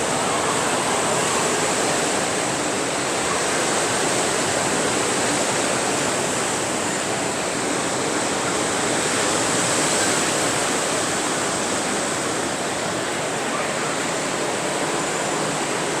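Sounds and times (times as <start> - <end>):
sea surf washing onto beach: 0.0 - 16.0.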